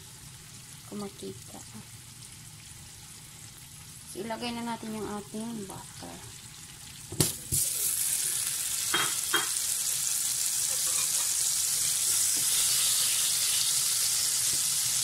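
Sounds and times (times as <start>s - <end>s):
butter sizzling in a pot: 0.0s - 15.0s.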